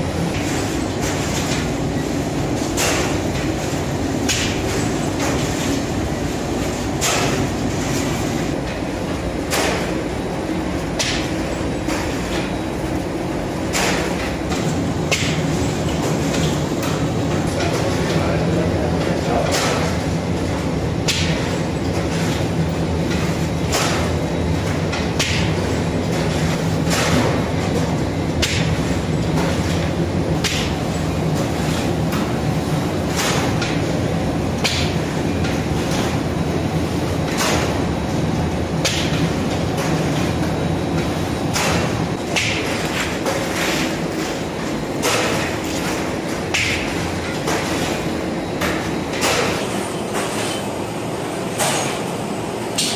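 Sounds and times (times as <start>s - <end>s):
production line mechanical hum: 0.0s - 52.9s.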